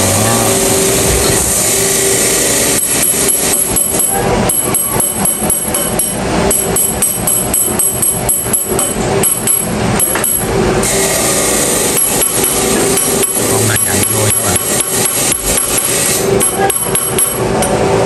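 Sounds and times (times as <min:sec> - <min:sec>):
machine humming: 0:00.0 - 0:18.0
rapid hammering on metal: 0:00.0 - 0:18.0.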